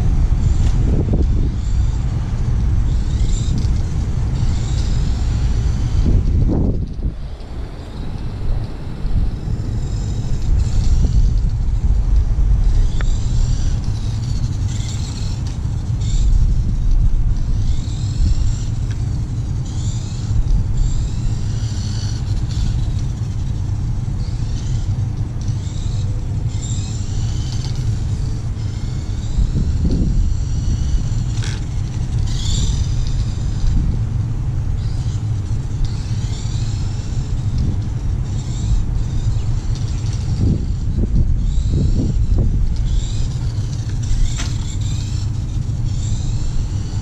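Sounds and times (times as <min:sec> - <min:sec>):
electric motor whining: 0:00.0 - 0:47.0
low rumble: 0:00.0 - 0:47.0.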